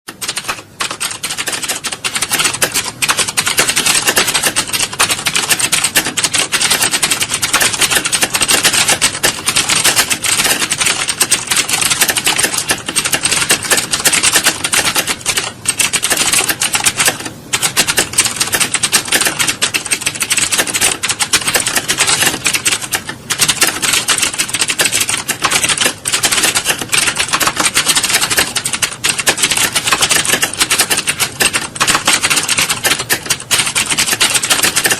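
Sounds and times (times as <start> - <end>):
keyboards typing clatter: 0.1 - 34.9.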